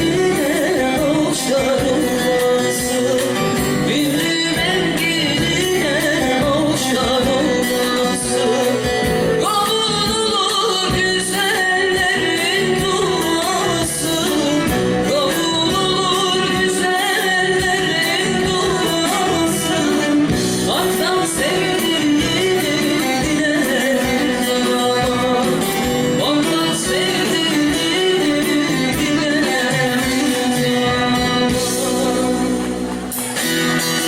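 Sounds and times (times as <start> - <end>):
woman singing folk song: 0.0 - 33.1
instrumental accompaniment: 0.0 - 34.0.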